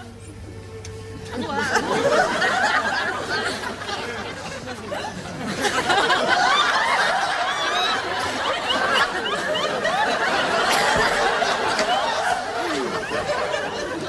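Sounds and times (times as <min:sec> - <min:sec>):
studio audience laughing: 0:01.3 - 0:14.0.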